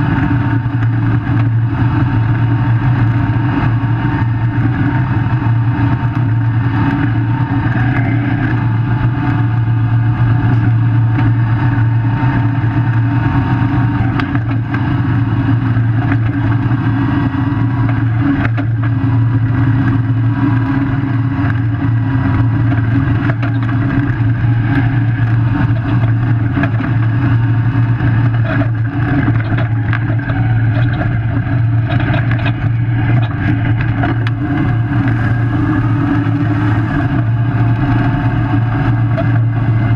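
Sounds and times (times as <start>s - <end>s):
vehicle driving on dirt road: 0.0s - 39.9s.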